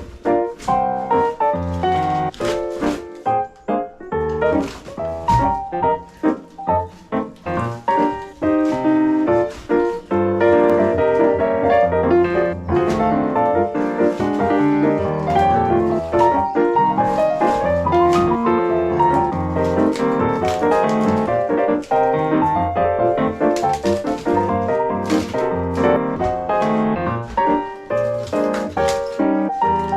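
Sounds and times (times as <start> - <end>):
piano background music: 0.0 - 29.9.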